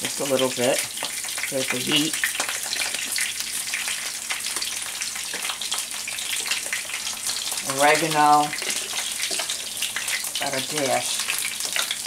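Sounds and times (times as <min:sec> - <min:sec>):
sausages sizzling in oil: 0:00.0 - 0:12.0.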